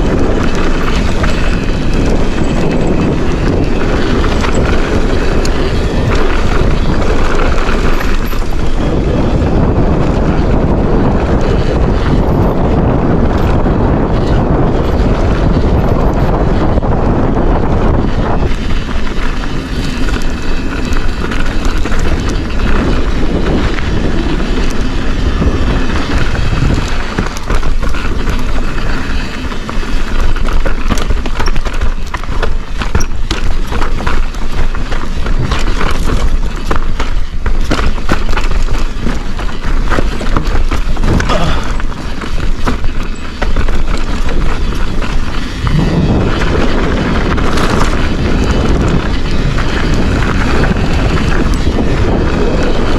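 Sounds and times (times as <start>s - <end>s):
bike rattling over bumps: 0.0s - 52.9s
tyres rolling on trail: 0.0s - 52.9s
wind buffeting microphone: 0.0s - 52.9s.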